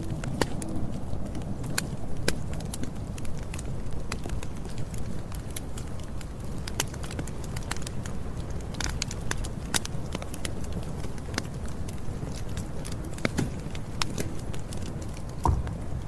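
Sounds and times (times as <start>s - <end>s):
flames rushing: 0.0s - 16.0s
wood crackling and popping: 0.0s - 16.0s.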